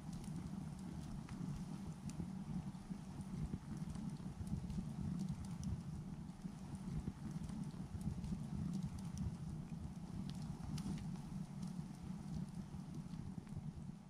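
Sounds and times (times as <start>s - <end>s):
faint ticks: 0.0s - 14.0s.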